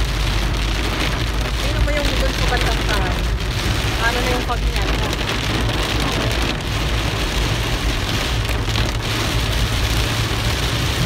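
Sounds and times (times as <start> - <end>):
car rumbling: 0.0 - 11.0
heavy rain on car roof: 0.0 - 11.0.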